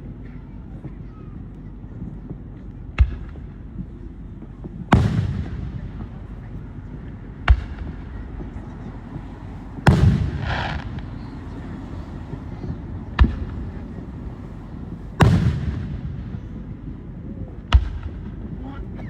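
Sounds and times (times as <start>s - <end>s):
rumbling echo: 2.5s - 19.0s
fireworks booming: 2.9s - 18.9s.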